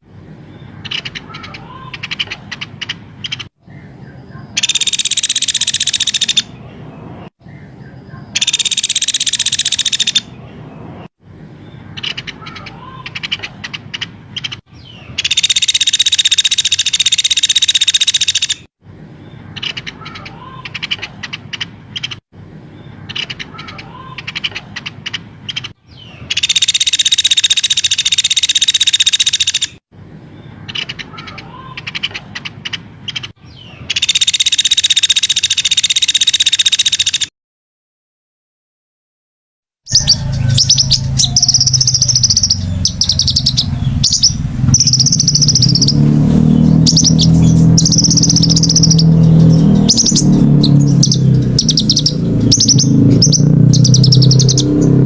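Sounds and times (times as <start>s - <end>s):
recorded songbird calls: 0.0s - 37.3s, 39.9s - 55.0s.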